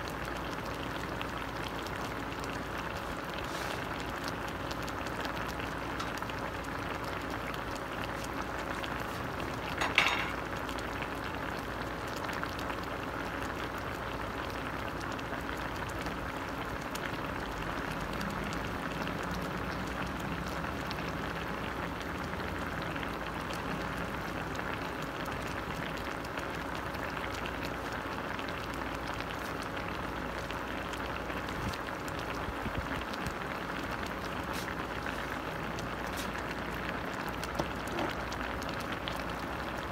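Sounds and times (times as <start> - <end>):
sauce bubbling in a pot: 0.0 - 39.9.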